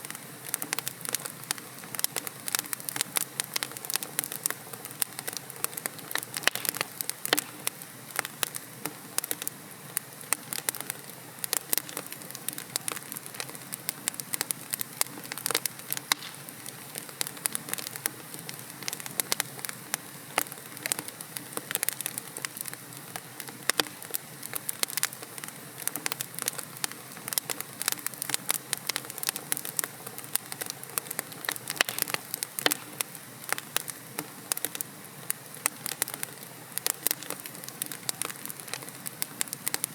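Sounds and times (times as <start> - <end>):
burning logs crackling and popping: 0.0 - 39.9
fire soft hiss: 0.0 - 39.9.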